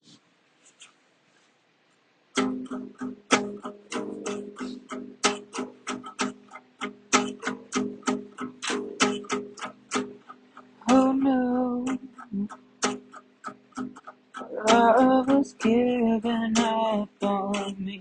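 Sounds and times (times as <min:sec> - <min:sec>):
acoustic guitar ballad: 0:02.4 - 0:18.0.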